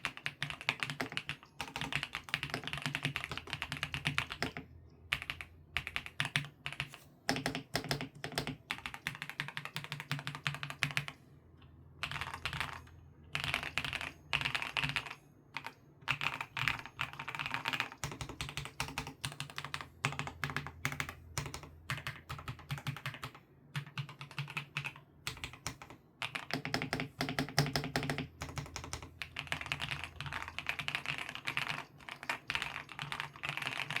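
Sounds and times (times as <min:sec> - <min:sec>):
mechanical keyboard typing: 0:00.0 - 0:11.2, 0:12.0 - 0:34.0.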